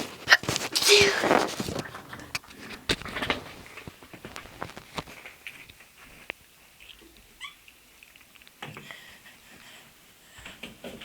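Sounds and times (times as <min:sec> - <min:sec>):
small clicks and rustles: 0:00.0 - 0:09.8.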